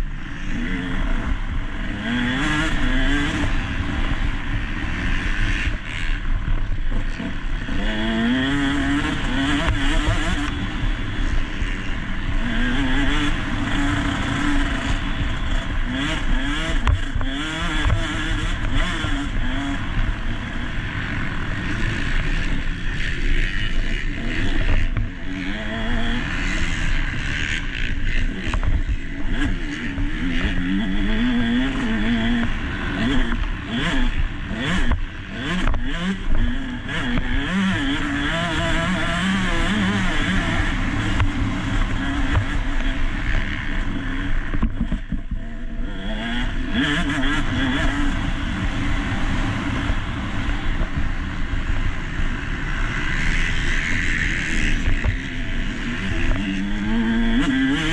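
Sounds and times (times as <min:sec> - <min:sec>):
motocross bike engine revving: 0:00.0 - 0:57.9
rush of noise: 0:00.0 - 0:57.9.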